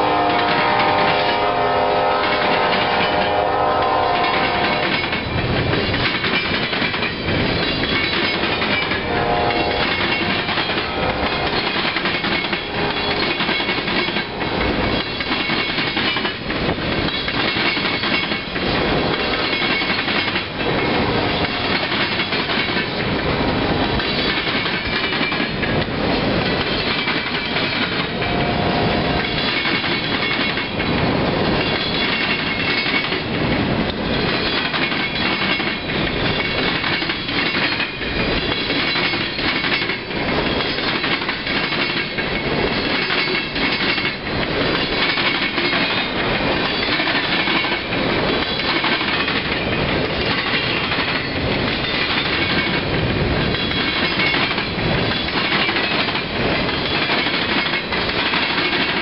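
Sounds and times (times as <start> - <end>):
train rolling rumble: 0.0 - 59.0
train wheels clacking over rail joints: 0.0 - 59.0.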